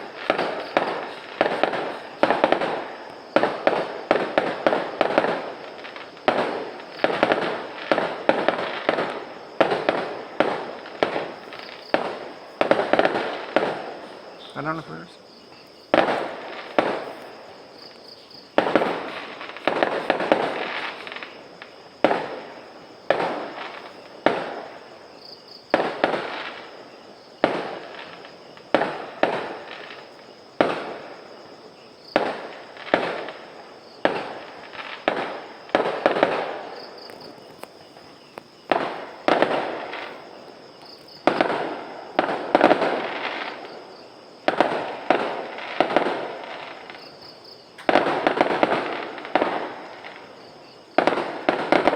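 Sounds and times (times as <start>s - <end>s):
fireworks banging: 0.0s - 51.9s.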